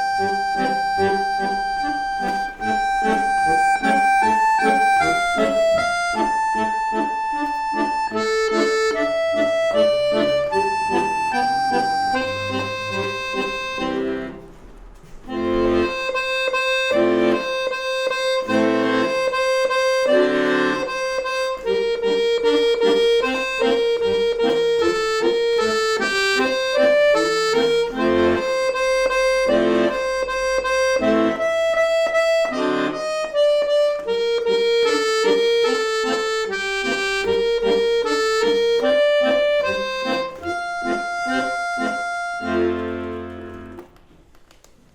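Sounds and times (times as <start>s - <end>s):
accordion melody: 0.0s - 44.3s.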